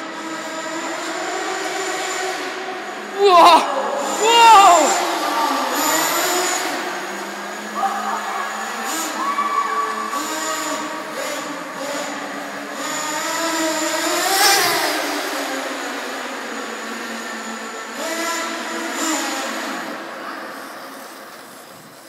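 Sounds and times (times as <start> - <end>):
rc car engine revving past: 0.0 - 22.0.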